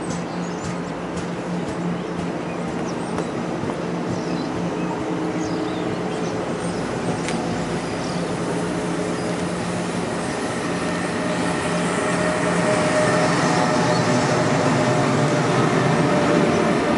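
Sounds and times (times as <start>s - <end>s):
train wheels rumbling on rail: 0.0s - 16.9s.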